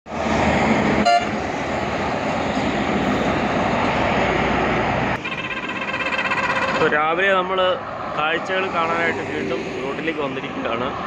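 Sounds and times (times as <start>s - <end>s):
vehicle engine and road noise: 0.1s - 11.0s.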